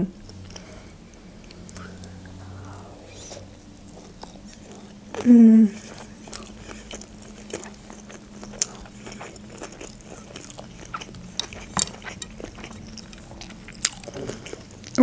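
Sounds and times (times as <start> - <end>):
chewing mouth sounds: 0.2 - 15.0.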